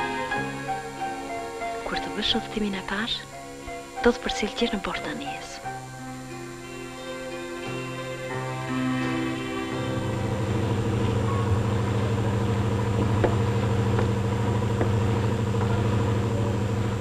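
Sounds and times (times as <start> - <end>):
music: 0.0 - 17.0
ship engine droning: 0.0 - 17.0.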